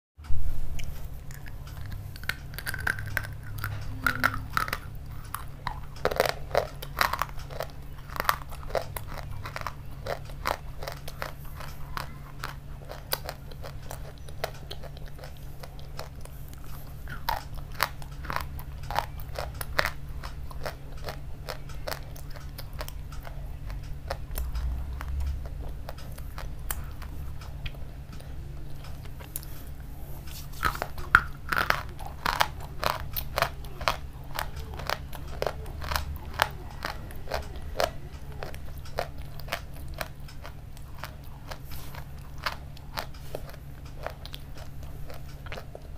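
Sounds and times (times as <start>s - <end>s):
steady low hum: 0.2s - 45.9s
crunchy food chewing: 0.7s - 45.9s.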